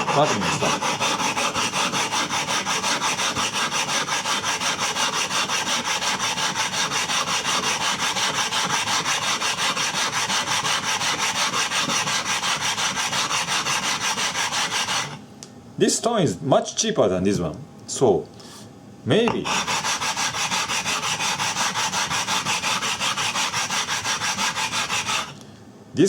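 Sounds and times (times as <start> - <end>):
stone scraping on whetstone: 0.0 - 15.2, 19.3 - 25.4.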